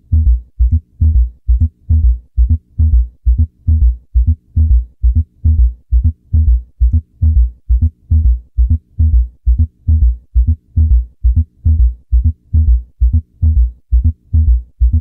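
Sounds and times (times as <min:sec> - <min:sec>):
heartbeat through stethoscope: 0:00.0 - 0:15.0.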